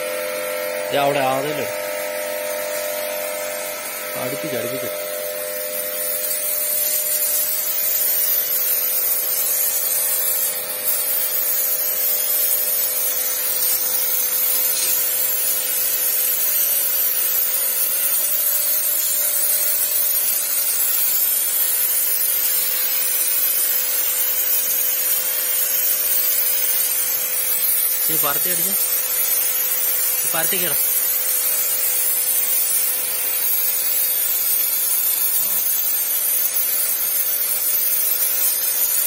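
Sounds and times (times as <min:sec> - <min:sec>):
high-pressure water jet hissing: 0:00.0 - 0:39.0
pressure washer motor humming: 0:00.0 - 0:39.0.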